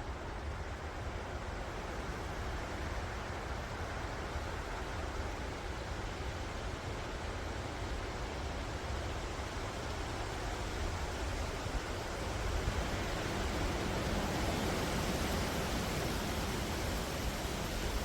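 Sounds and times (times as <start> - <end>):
wind rushing through trees: 0.0 - 18.0.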